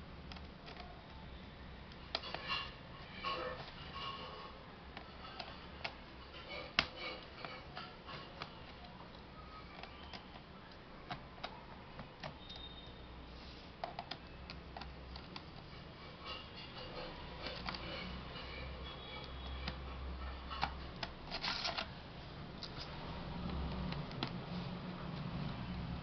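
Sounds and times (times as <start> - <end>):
laptop parts clicking: 0.2 - 4.2, 4.9 - 13.0, 13.7 - 24.5.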